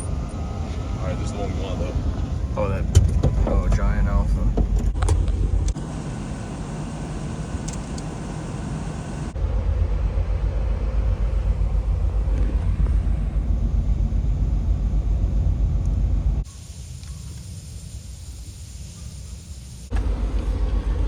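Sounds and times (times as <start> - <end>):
vehicle driving rumble: 0.0 - 16.5, 19.9 - 21.0.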